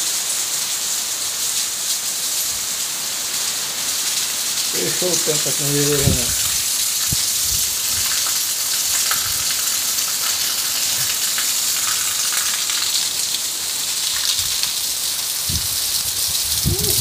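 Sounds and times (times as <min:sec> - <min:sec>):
heavy rain on tile roof: 0:00.0 - 0:17.0.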